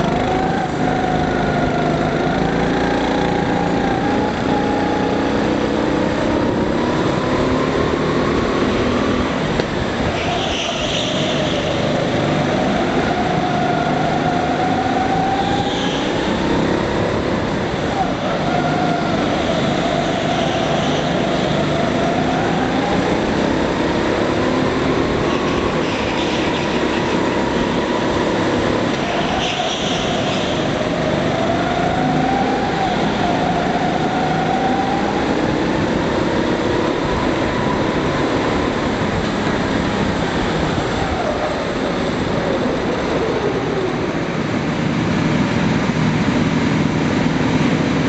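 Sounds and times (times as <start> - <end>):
constant rush of noise: 0.0 - 48.0
go-kart motor: 0.0 - 48.0.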